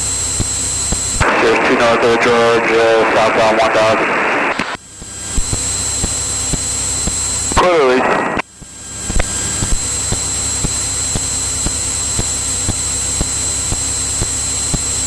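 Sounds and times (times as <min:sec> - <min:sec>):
aircraft engine cockpit drone: 0:00.0 - 0:15.0.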